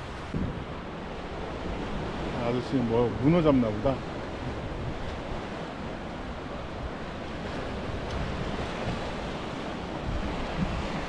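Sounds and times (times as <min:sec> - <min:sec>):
sea waves on rocky shore: 0:00.0 - 0:11.0
wind rumbling on microphone: 0:00.0 - 0:11.0.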